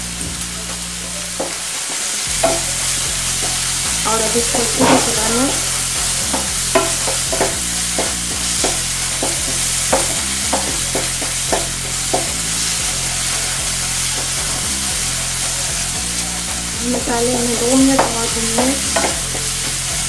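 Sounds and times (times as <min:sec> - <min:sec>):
sizzle of frying: 0:00.0 - 0:20.0
spatula scraping frying pan: 0:00.0 - 0:20.0.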